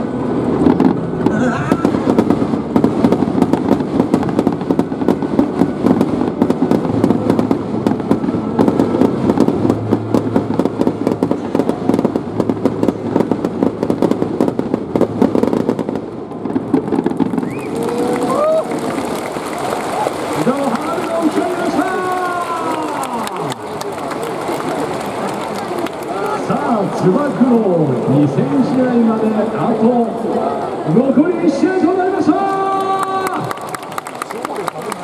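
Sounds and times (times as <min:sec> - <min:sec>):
fireworks crackling and popping: 0:00.0 - 0:35.0.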